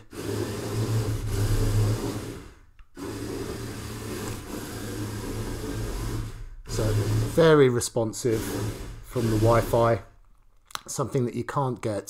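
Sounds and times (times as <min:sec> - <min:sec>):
robot gear motors running: 0:00.0 - 0:10.2
wheels driving over wooden floor: 0:00.0 - 0:10.2.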